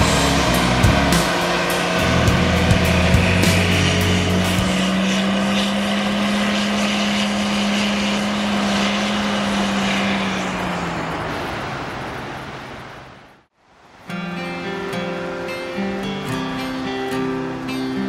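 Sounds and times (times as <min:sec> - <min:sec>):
vehicle engine droning: 0:00.0 - 0:14.0, 0:15.2 - 0:18.0.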